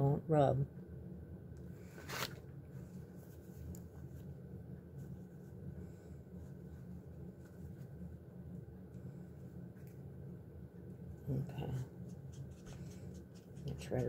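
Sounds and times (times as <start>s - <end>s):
low steady hum: 0.0s - 14.0s
faint handling sounds: 1.6s - 14.0s.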